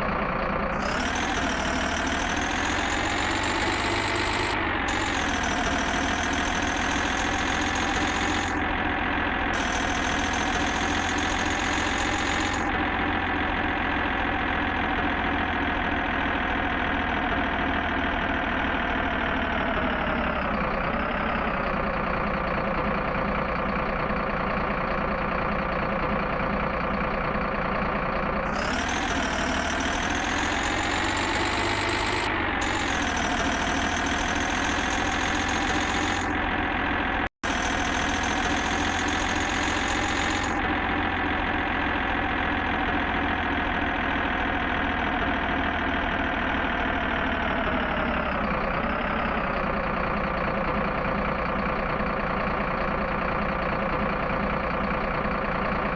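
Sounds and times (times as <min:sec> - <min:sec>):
engine idling: 0:00.0 - 0:55.9.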